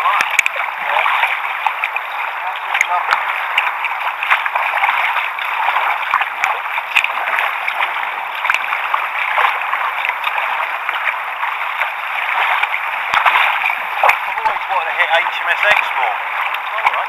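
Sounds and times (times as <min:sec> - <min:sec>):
water lapping against kayak hulls: 0:00.0 - 0:17.0.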